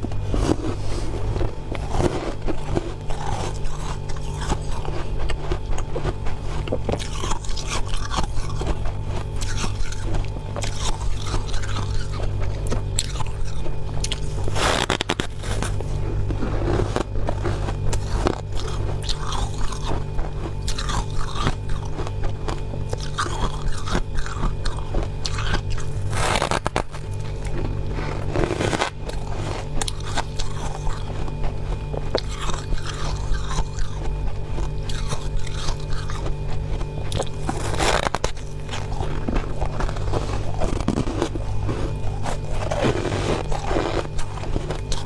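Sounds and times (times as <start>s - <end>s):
chewing and crunching frost: 0.0s - 45.0s
steady low hum: 0.0s - 45.0s.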